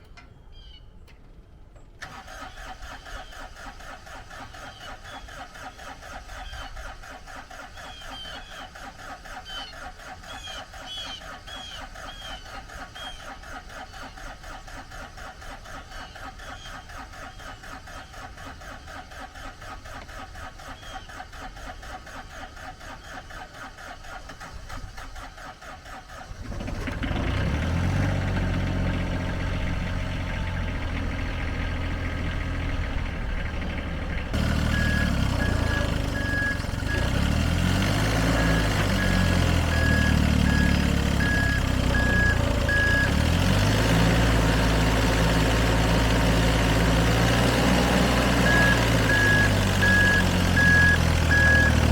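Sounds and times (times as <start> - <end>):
engine cranking and running: 1.1 - 51.9.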